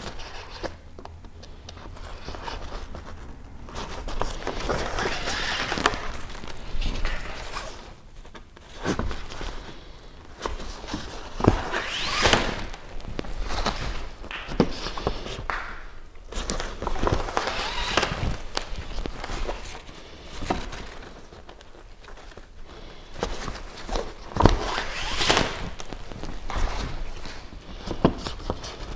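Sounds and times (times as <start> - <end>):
fabric rustling and swishing: 1.8 - 28.9.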